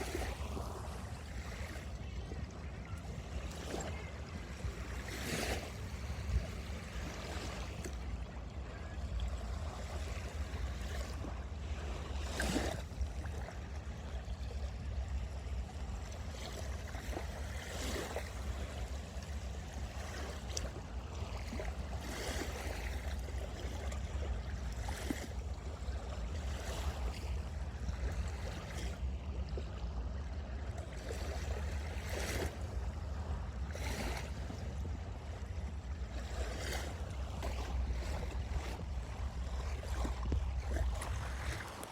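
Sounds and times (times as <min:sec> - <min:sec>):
small waves splashing on beach: 0:00.0 - 0:41.9.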